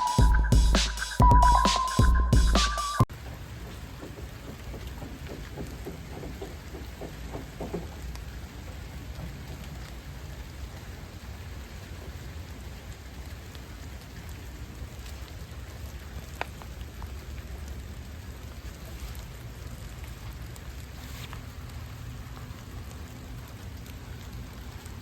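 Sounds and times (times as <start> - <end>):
steady rain falling: 2.7 - 25.0.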